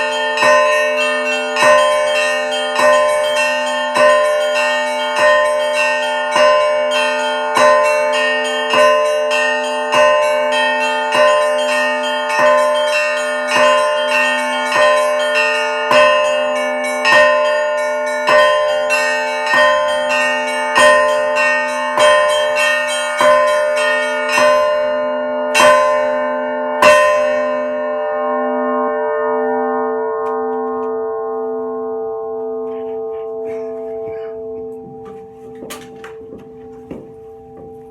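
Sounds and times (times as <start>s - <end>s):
church bells ringing: 0.0s - 37.9s.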